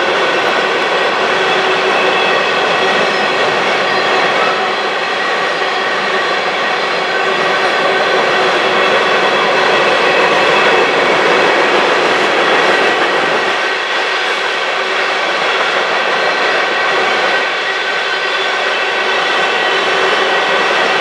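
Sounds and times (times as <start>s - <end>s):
train wheels on rail: 0.0s - 21.0s.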